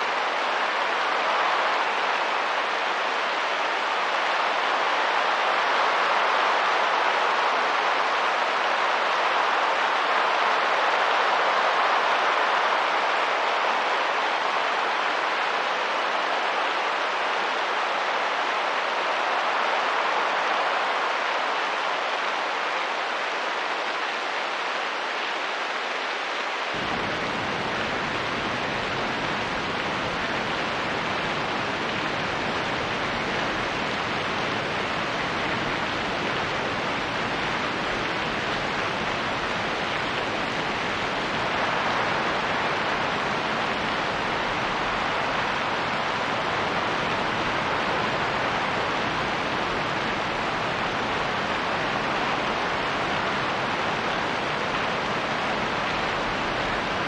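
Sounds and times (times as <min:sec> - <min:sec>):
steady rain: 0:00.0 - 0:57.0
wind: 0:00.0 - 0:57.0.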